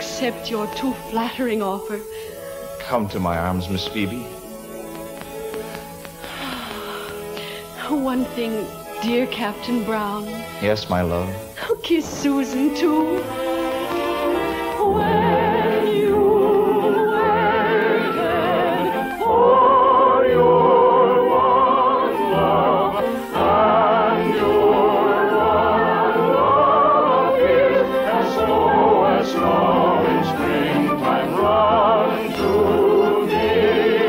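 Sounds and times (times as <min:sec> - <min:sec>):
operatic singing: 0:00.0 - 0:34.0
orchestral music: 0:00.0 - 0:34.0.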